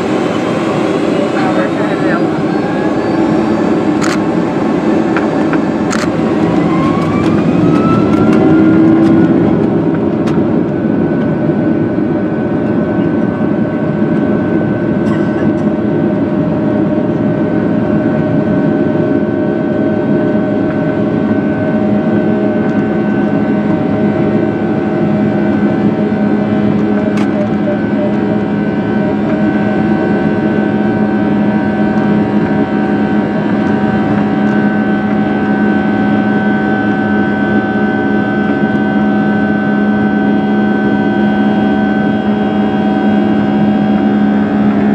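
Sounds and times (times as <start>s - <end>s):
jet engines whining and roaring: 0.0s - 44.9s.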